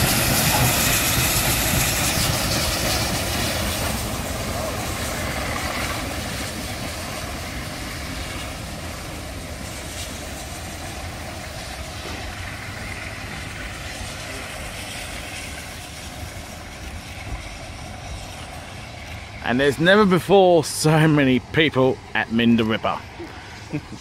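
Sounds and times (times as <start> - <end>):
steam train running: 0.0 - 24.0.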